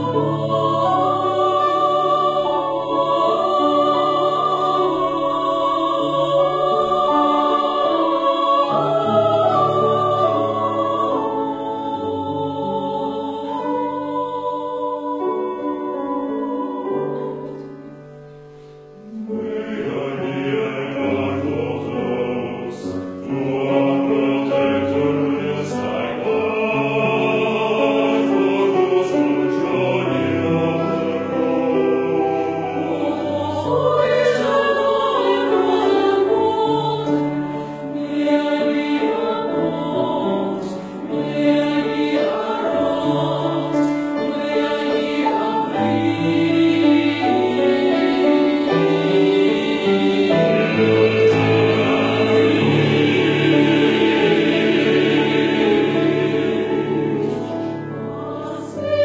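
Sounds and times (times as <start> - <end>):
choir singing: 0.0 - 59.0
piano accompaniment: 0.0 - 59.0.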